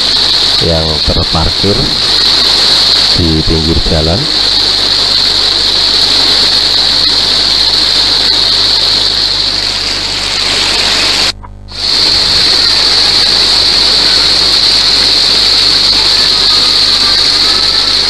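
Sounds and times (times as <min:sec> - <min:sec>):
heavy rain on a flooded street: 0:00.0 - 0:00.7, 0:02.0 - 0:03.2, 0:04.4 - 0:18.0.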